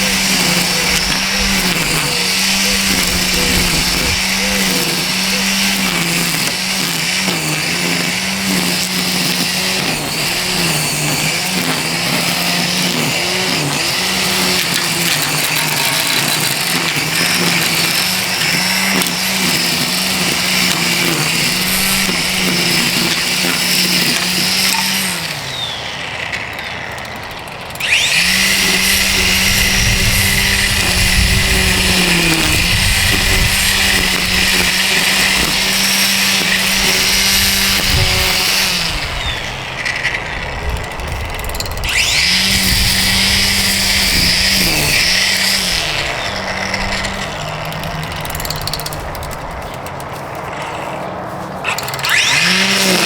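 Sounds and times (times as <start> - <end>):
string trimmer running: 0.0 - 53.0.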